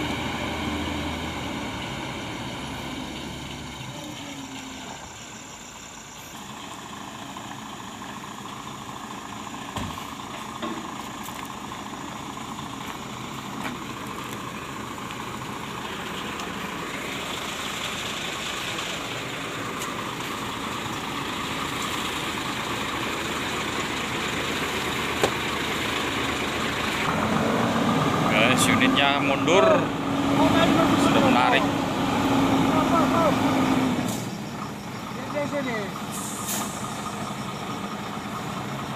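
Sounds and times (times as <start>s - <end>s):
diesel truck engines idling: 0.0s - 38.9s.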